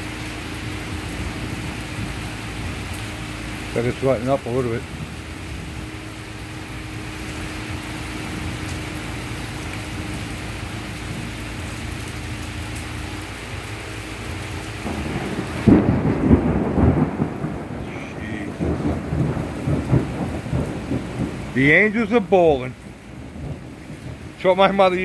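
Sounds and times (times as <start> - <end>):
heavy rain: 0.0 - 25.0
thunder rumbling: 0.0 - 25.0.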